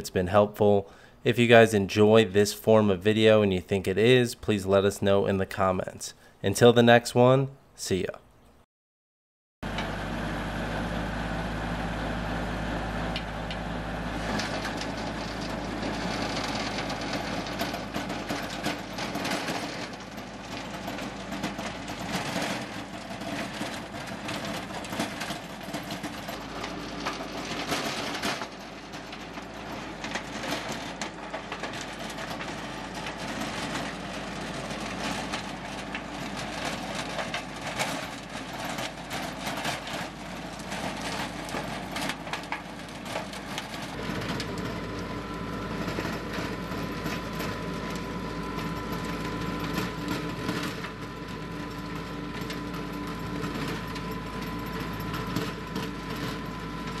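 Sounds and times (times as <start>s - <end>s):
tiller tines churning dirt: 9.6s - 57.0s
tractor engine running under load: 9.6s - 57.0s.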